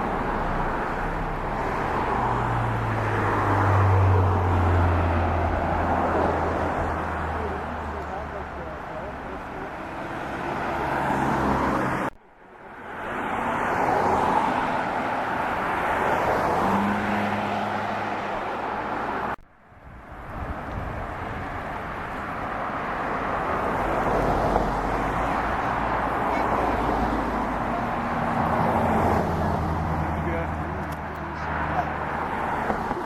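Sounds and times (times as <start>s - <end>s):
moving vehicle rushing noise: 0.0s - 33.0s.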